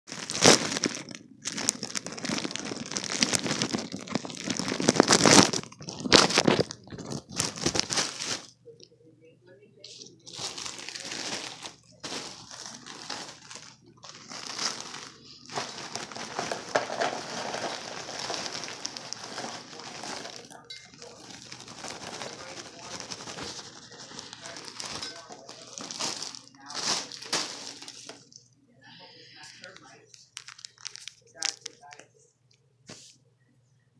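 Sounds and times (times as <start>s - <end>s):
material crinkling and rustling: 0.1s - 8.8s, 9.8s - 32.2s.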